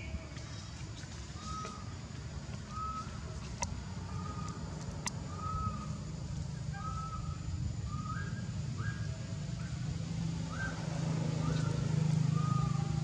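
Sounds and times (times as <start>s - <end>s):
bird calling: 0.0s - 13.0s
steady low rumble: 0.0s - 13.0s.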